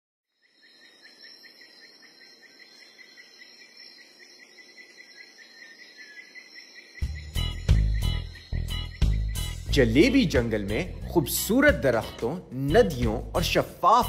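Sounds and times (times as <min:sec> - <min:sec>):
crickets chirping: 0:00.3 - 0:14.0.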